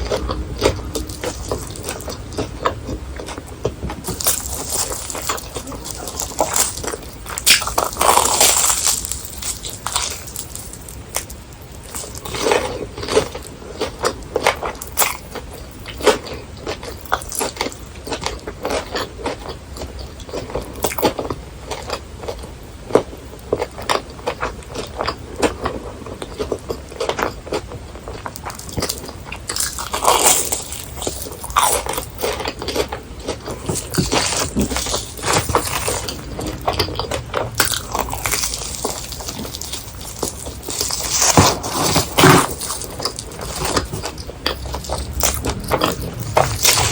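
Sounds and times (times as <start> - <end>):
chewing crispy food: 0.0 - 46.9.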